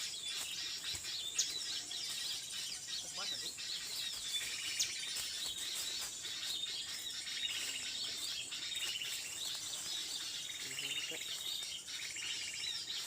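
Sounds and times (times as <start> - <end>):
small birds chirping trills: 0.0 - 13.0.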